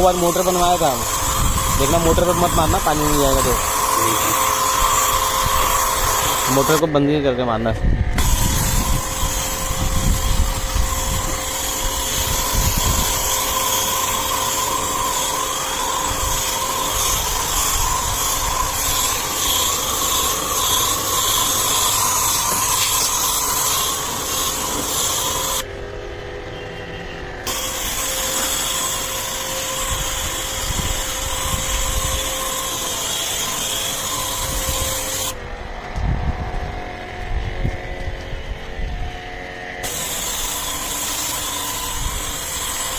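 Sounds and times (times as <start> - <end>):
pressure washer spraying: 0.0 - 6.8, 8.2 - 25.6, 27.4 - 35.4, 39.8 - 42.9.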